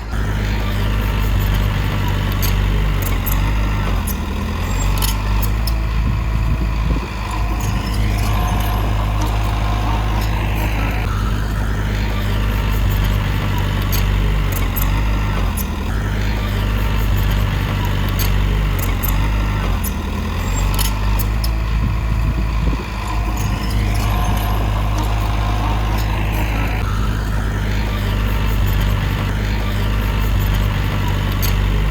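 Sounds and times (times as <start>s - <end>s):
heavy diesel machinery running: 0.0s - 31.9s
sharp clicks and clanks: 0.0s - 31.9s.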